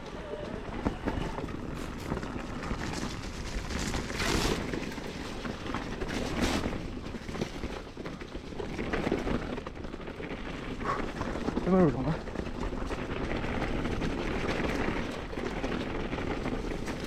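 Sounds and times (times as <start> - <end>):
bike tyres rolling on dirt: 0.0 - 17.0.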